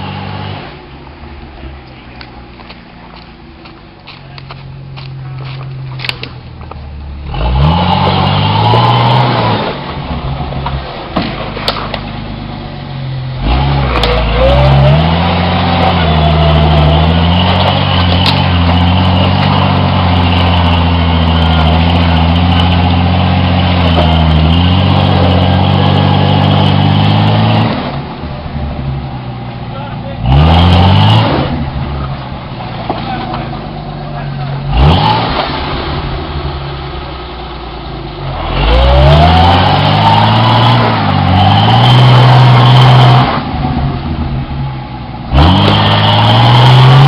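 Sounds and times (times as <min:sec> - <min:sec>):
car engine revving hard: 0:07.2 - 0:12.5, 0:13.2 - 0:47.0.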